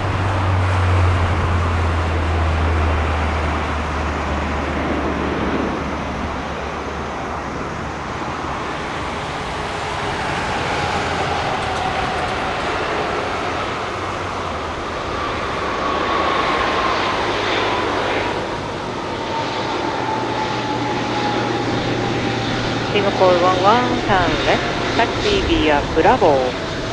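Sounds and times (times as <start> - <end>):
jet engines spooling down: 0.0 - 26.9.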